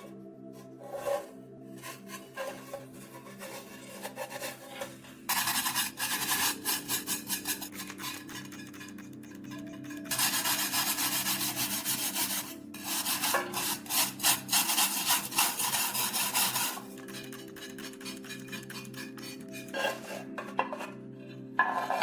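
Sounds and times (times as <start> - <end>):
abrasive rubbing on steel: 0.6 - 22.0.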